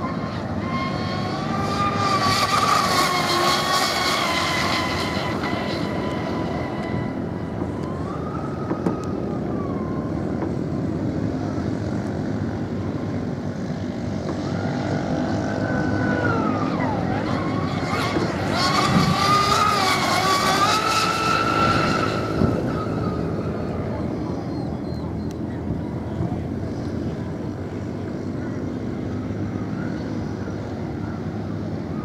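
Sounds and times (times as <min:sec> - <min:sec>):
motor and propeller whine: 0:00.0 - 0:32.0.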